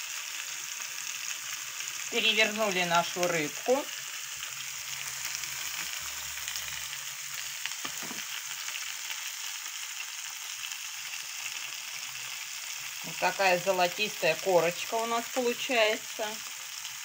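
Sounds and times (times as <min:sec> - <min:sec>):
fish frying in oil: 0:00.0 - 0:17.0.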